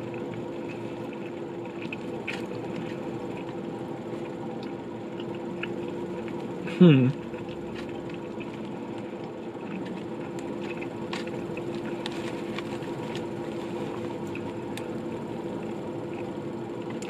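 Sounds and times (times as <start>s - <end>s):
person chewing crispy food: 0.0s - 17.0s
steady background hum: 0.0s - 17.0s.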